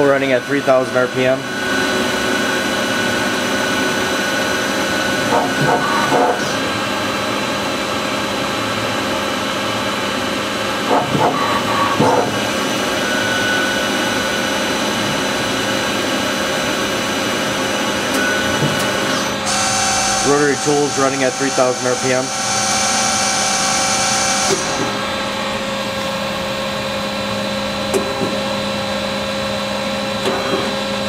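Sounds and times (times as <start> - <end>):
lathe humming and whining: 0.0 - 31.0.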